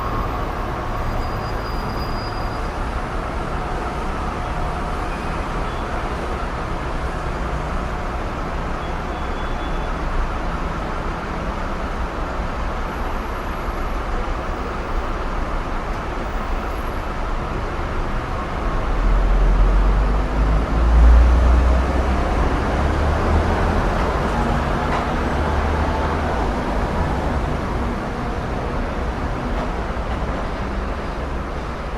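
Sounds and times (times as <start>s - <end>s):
passing road traffic: 0.0s - 31.9s.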